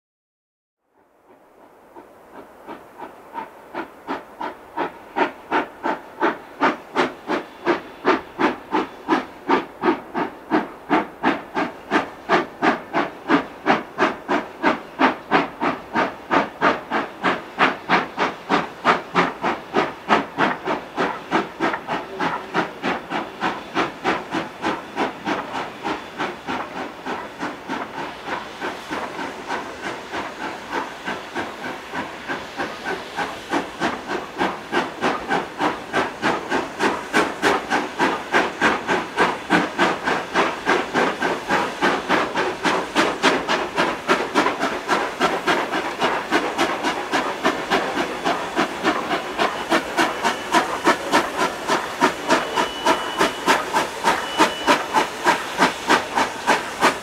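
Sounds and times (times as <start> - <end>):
steady steam hiss: 1.0 - 57.0
steam locomotive exhaust chuffs: 1.0 - 57.0.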